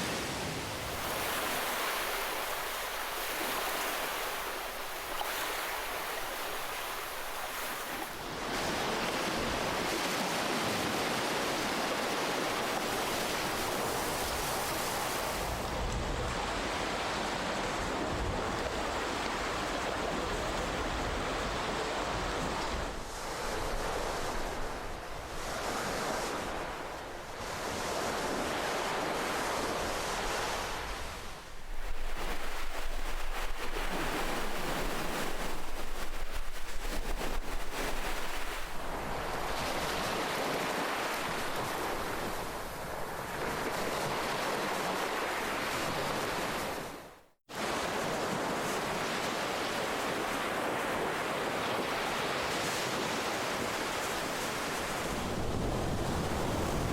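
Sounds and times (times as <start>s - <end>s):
ocean waves breaking on shore: 0.0s - 56.9s.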